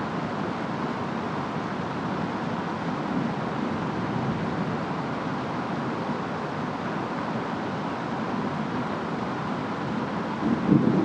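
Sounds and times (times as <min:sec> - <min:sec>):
rain and wind hissing: 0:00.7 - 0:11.0.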